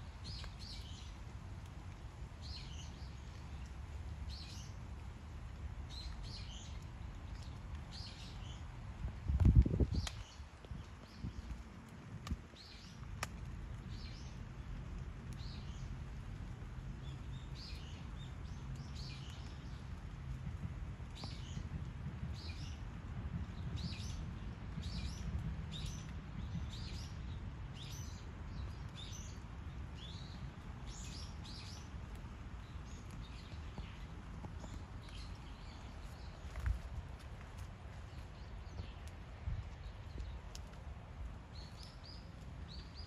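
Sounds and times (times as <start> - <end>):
small birds chirping: 0.0 - 1.2, 2.4 - 5.1, 5.8 - 43.0
steady low rumble: 3.1 - 43.0.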